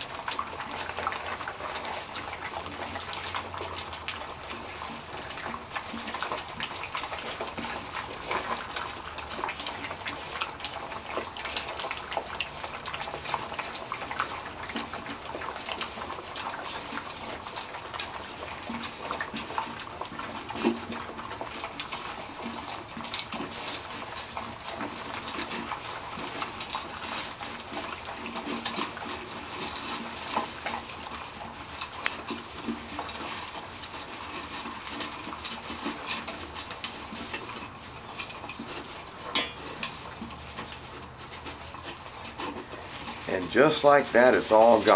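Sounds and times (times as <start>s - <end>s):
puppies lapping and eating: 0.0s - 44.9s.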